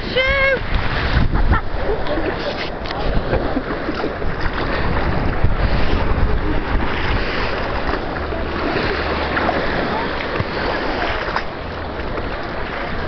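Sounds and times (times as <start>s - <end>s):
wind buffeting microphone: 0.0s - 13.0s
sea water washing over shingle: 0.7s - 13.0s.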